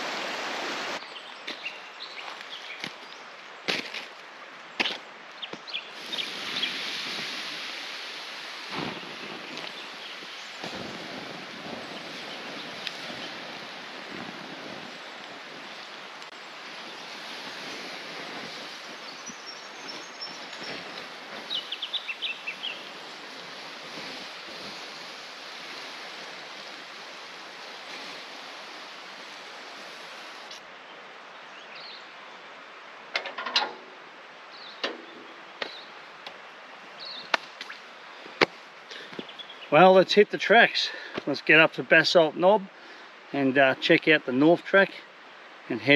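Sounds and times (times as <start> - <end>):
hot coals hissing under water: 0.0 - 30.6, 34.1 - 42.0, 42.7 - 43.5.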